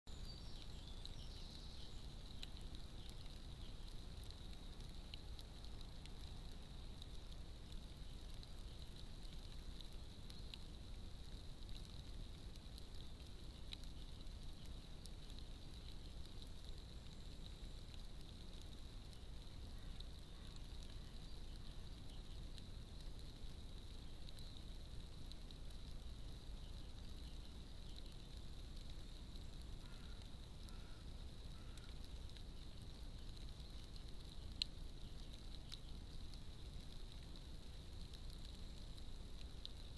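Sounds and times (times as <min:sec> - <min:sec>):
faint microphone hiss: 0:00.1 - 0:39.9
light ticks: 0:00.1 - 0:39.9.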